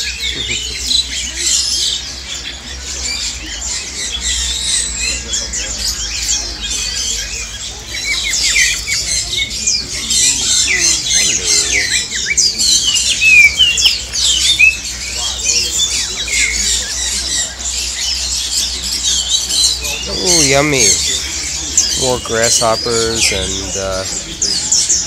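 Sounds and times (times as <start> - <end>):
caged birds chirping and squawking: 0.0 - 25.0.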